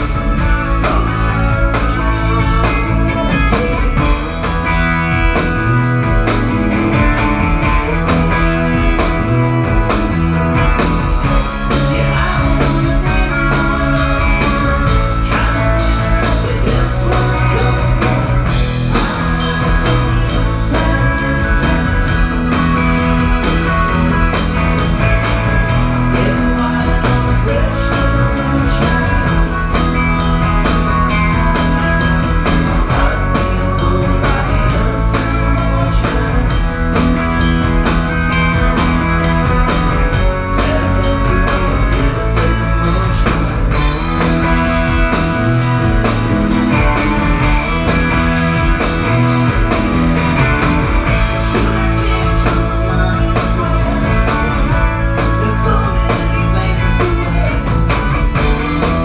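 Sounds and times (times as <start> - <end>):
bass guitar: 0.0 - 59.0
drum kit beat: 0.0 - 59.0
electric guitars: 0.0 - 59.0.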